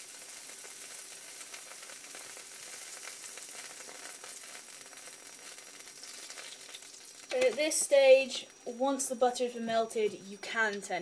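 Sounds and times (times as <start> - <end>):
batter sizzling in frying pan: 0.0 - 10.8.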